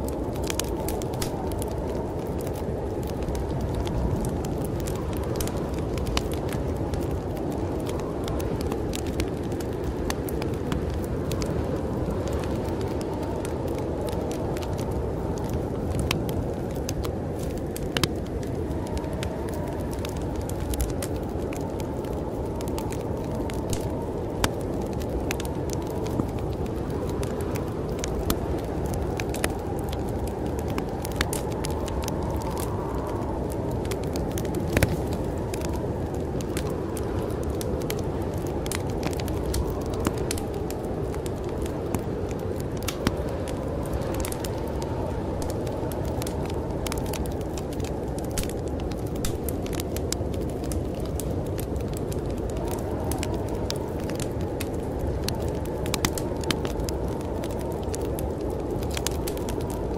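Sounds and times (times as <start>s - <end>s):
snowstorm wind: 0.0s - 59.9s
wood fire crackling: 0.0s - 59.9s.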